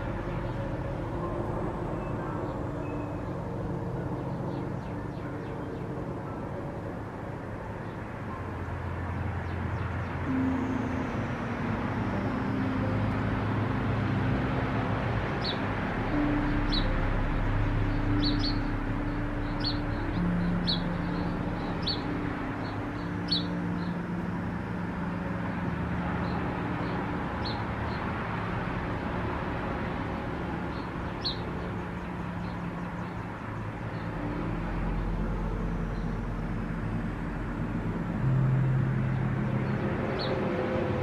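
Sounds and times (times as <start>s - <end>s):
low rumble and hum: 0.0s - 41.0s.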